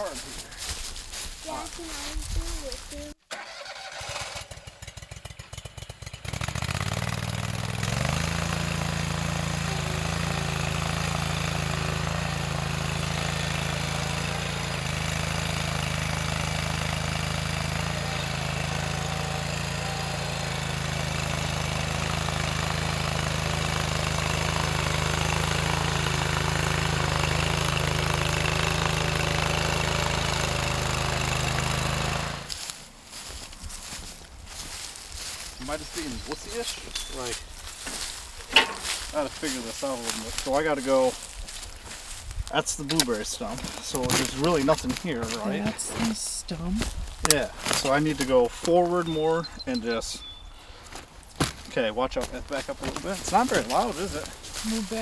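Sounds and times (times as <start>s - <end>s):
stump grinder engine revving: 0.0s - 55.0s.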